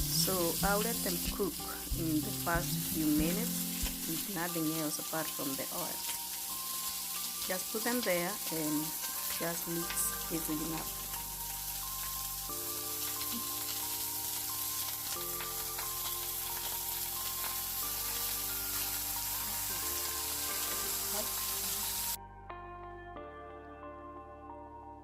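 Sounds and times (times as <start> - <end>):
chicken sizzling in hot oil: 0.0 - 22.2.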